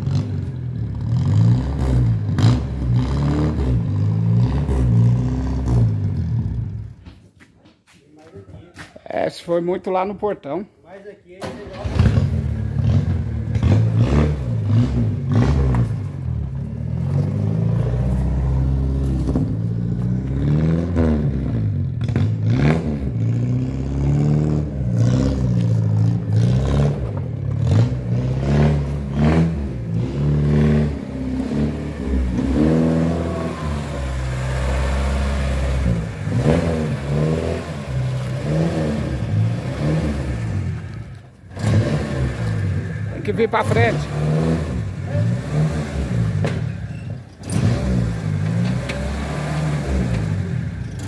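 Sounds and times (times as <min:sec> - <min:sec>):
car engine revving: 0:00.0 - 0:07.0, 0:11.5 - 0:51.0.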